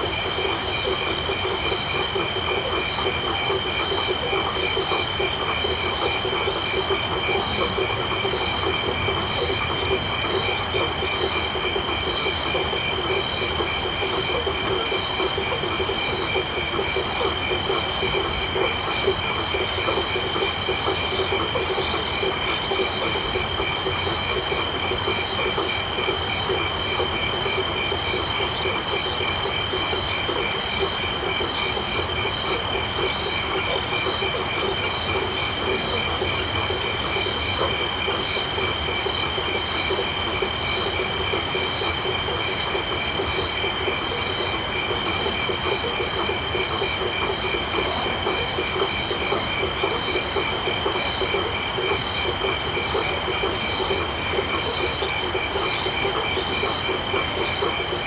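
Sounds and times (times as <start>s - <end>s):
high-pitched insect trills: 0.0s - 58.0s
pulsing frog calls: 0.1s - 58.0s.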